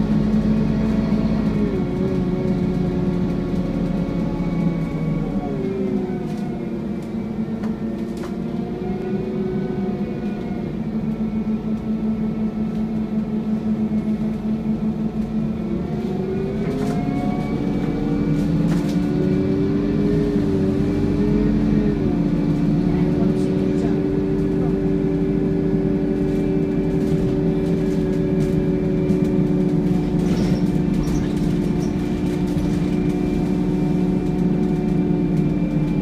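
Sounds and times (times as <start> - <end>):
bus whining hum: 0.0 - 36.0.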